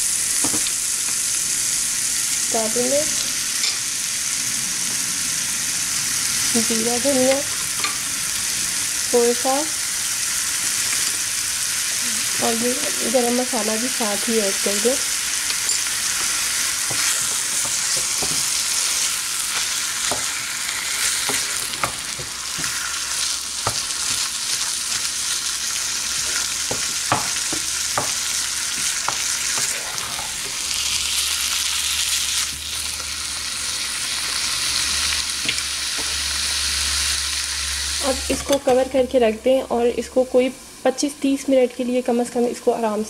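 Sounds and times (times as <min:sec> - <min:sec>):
meat sizzling in oil: 0:00.0 - 0:43.0.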